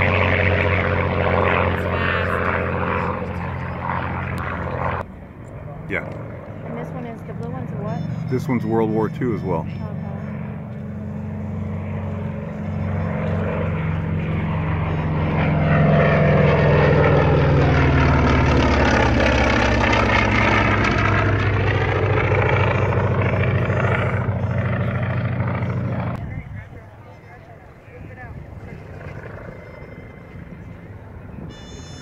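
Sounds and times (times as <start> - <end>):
propeller plane flying overhead: 0.0 - 32.0.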